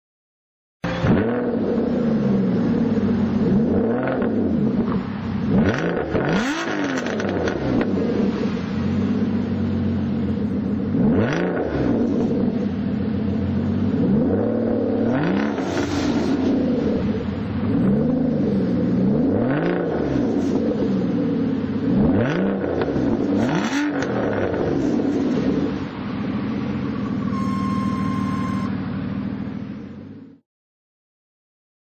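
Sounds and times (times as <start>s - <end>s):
car engine revving: 0.8s - 30.4s.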